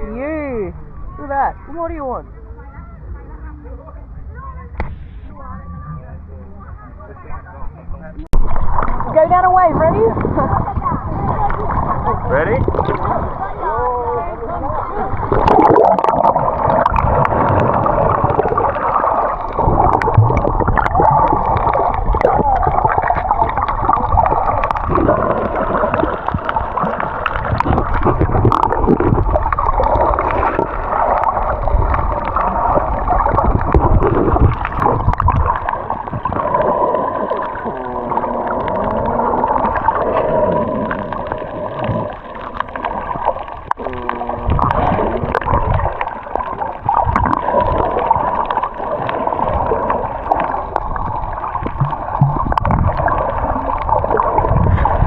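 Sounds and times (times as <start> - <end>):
underwater gurgling and bubbling: 8.2 - 55.0.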